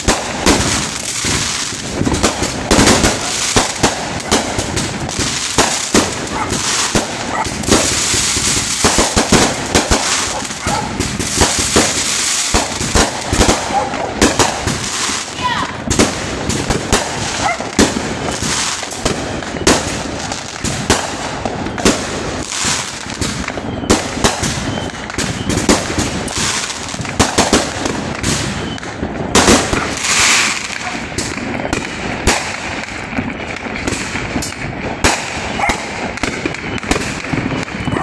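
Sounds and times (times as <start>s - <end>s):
fireworks crackle: 0.0s - 38.0s.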